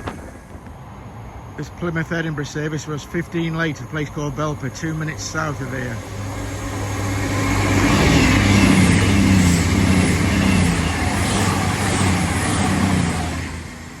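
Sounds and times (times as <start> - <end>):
diesel train engines humming: 0.0 - 14.0
train wheels rumbling on rails: 0.0 - 14.0.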